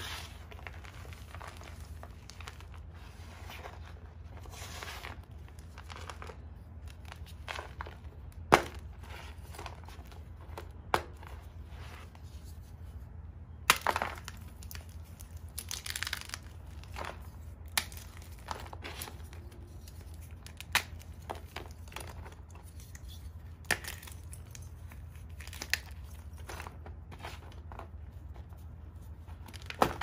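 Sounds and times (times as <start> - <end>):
chalk crunching and crumbling: 0.0 - 13.0, 13.7 - 30.0.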